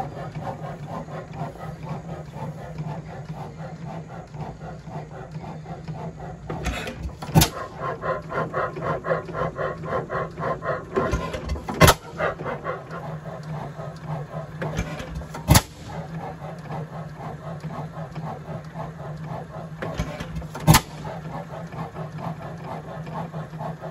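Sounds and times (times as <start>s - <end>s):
engine firing strokes: 0.0s - 23.9s
rhythmic engine clatter: 0.0s - 23.9s.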